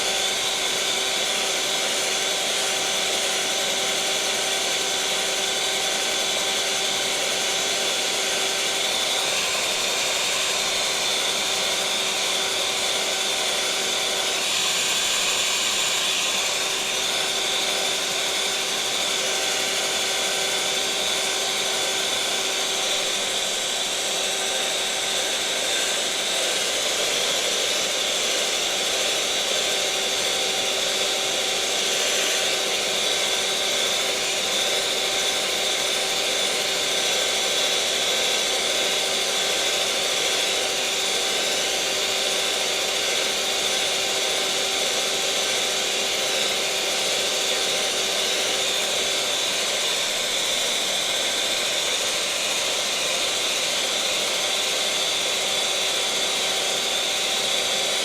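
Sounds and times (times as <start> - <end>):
kitchen mixer motor whine: 0.0 - 58.0.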